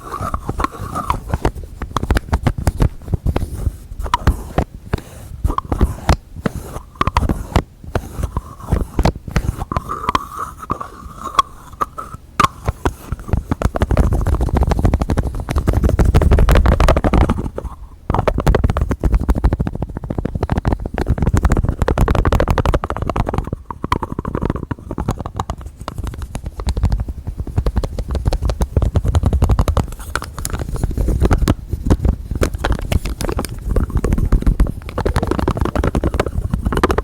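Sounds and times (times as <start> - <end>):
fingernails tapping on containers: 0.0 - 27.0, 27.6 - 37.0
rubbing and scratching: 0.0 - 37.0.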